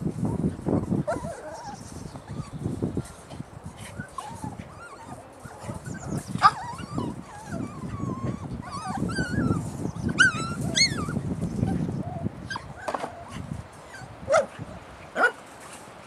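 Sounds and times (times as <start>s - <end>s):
puppies whining: 0.1s - 14.6s
puppies yipping: 0.1s - 14.6s.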